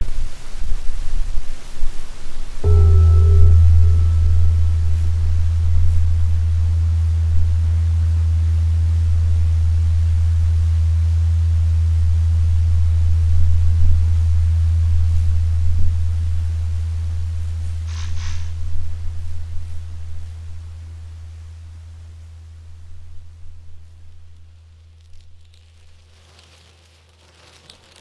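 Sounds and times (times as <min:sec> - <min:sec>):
deep low hum: 0:00.0 - 0:27.0
faint hiss: 0:00.0 - 0:28.0.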